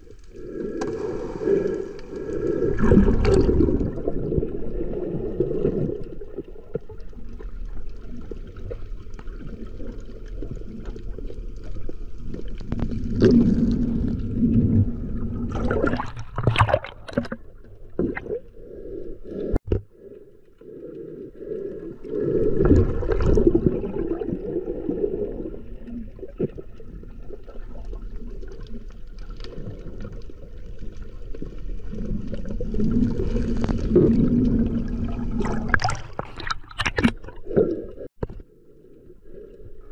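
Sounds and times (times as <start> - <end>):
muffled underwater rumble: 0.0 - 39.9
water gurgling and sloshing: 0.0 - 39.9.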